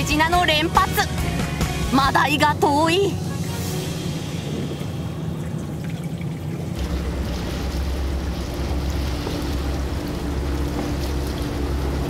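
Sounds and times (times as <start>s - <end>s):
boat engine low rumble: 0.0s - 12.0s
sea noise: 0.0s - 12.0s
wind: 0.0s - 12.0s.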